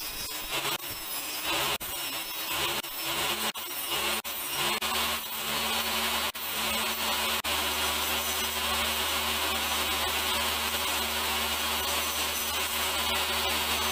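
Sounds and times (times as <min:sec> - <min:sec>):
table saw cutting wood: 0:00.0 - 0:13.9.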